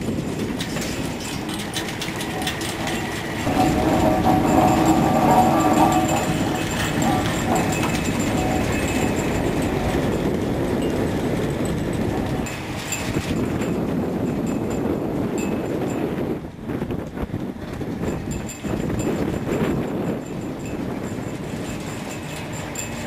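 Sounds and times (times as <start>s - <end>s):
hydraulic haulers rattling: 0.0s - 16.2s, 17.6s - 23.0s.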